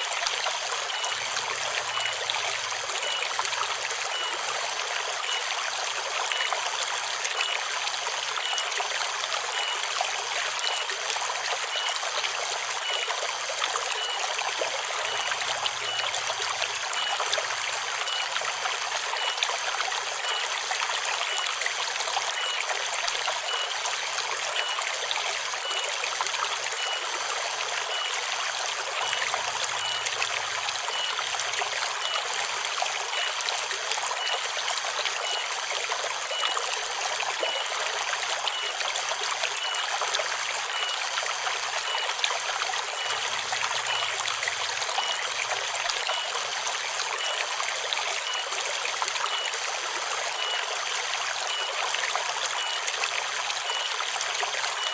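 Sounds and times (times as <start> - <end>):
river flowing and trickling: 0.0 - 54.9.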